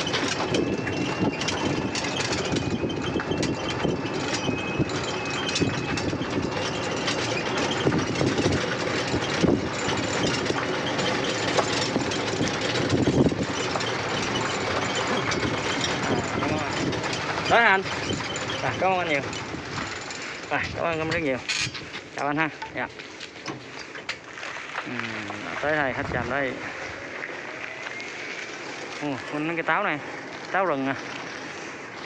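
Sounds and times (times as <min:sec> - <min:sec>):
cart driving on gravel: 0:00.0 - 0:32.0
cart knocks and rattles: 0:00.0 - 0:32.0.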